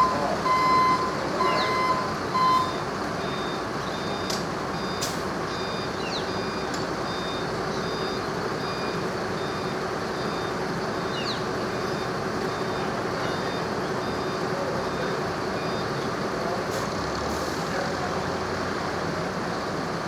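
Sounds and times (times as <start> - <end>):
vehicle reversing alarm beeping: 0.0 - 16.9
heavy vehicle engine running: 0.0 - 20.0.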